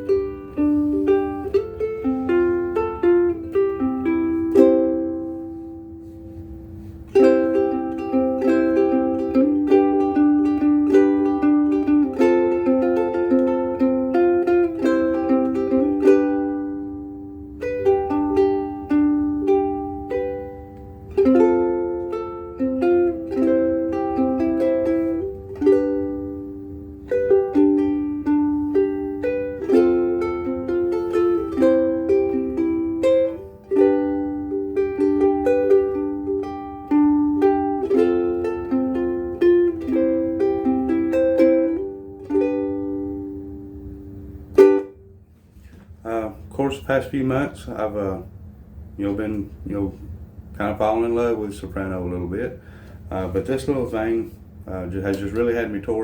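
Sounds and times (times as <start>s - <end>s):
ukulele notes and chords: 0.0s - 46.5s.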